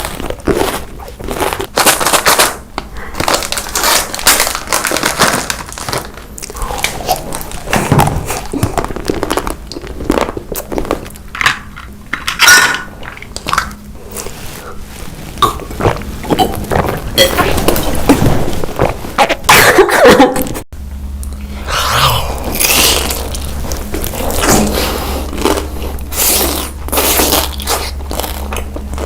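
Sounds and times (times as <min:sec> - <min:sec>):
crunchy chewing: 0:00.0 - 0:19.4, 0:21.2 - 0:29.0.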